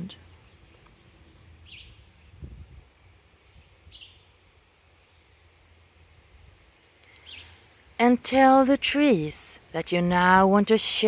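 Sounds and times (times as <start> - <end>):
high insect hiss: 0.0 - 11.0.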